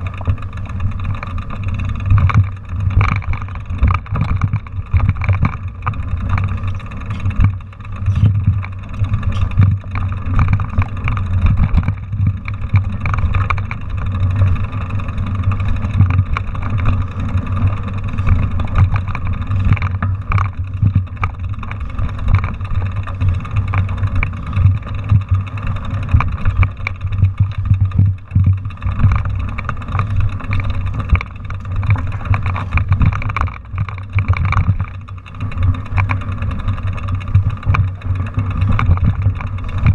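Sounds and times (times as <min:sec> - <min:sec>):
bike rattling and knocking: 0:00.0 - 0:39.9
bike tyres rumbling on dirt: 0:00.0 - 0:39.9.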